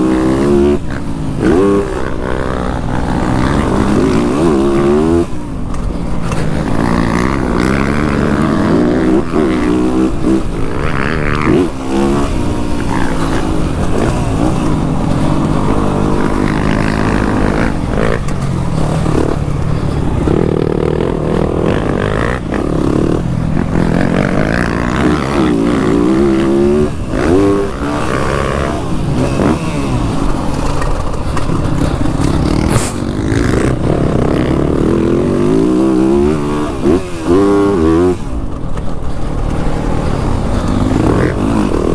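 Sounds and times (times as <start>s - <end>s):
motocross bike engine revving: 0.0s - 5.5s, 6.2s - 41.9s.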